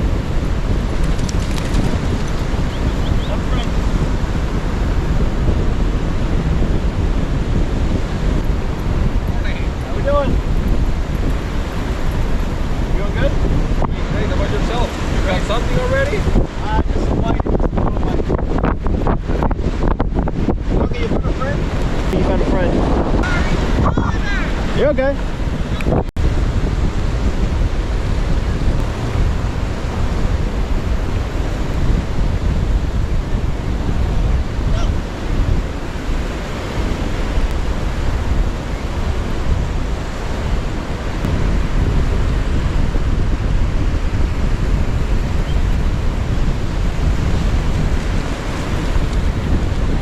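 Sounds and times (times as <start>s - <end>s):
surf washing onto beach: 0.0s - 50.0s
wind rumbling on microphone: 0.0s - 50.0s.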